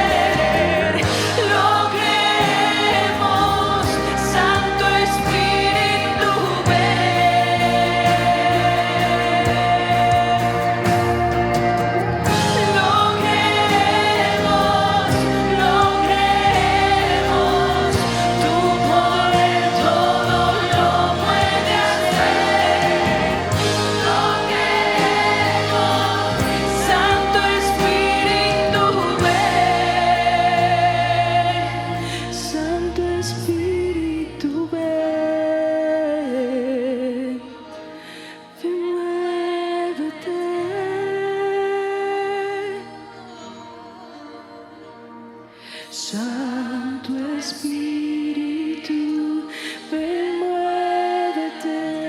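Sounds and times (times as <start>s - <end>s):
worship song with band: 0.0s - 52.0s.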